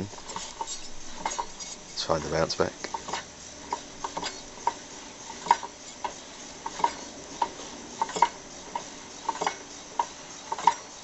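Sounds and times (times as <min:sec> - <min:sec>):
engine turned over by hand clicking: 0:00.0 - 0:11.0.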